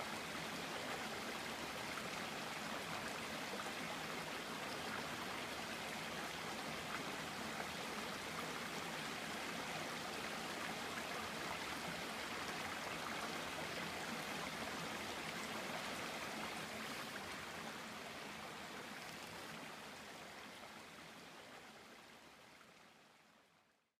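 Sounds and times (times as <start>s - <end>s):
creek water flowing over stones: 0.0s - 23.4s.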